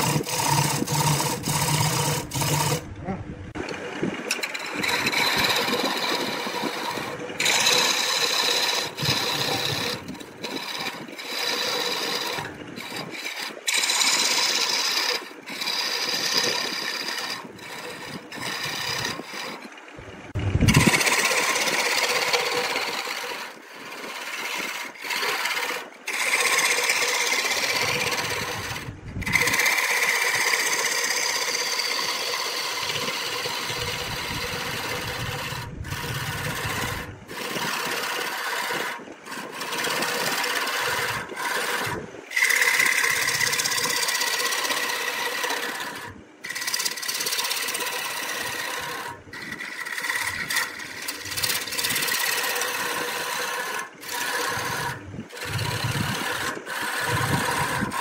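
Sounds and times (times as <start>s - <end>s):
turning tool rasping on wood: 0.0s - 2.9s, 3.5s - 19.9s, 20.6s - 58.0s
wood lathe running: 0.0s - 58.0s.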